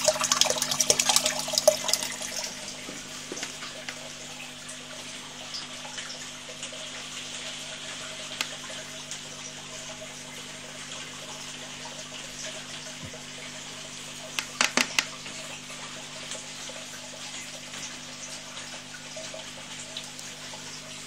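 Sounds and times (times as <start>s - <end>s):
aquarium filter water running: 0.0s - 21.0s.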